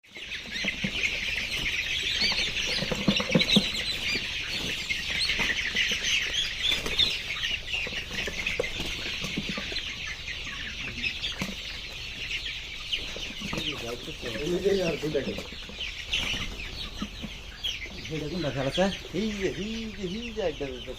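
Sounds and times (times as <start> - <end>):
hens clucking: 0.1 - 20.9.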